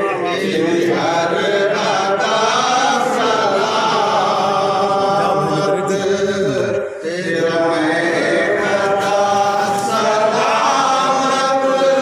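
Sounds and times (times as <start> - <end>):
men singing devotional chant: 0.0 - 12.0.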